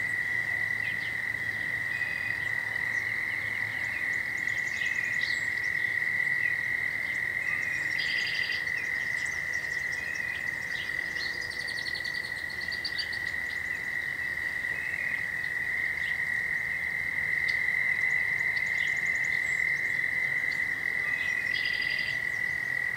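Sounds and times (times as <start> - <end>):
tree frogs trilling chorus: 0.0 - 22.9.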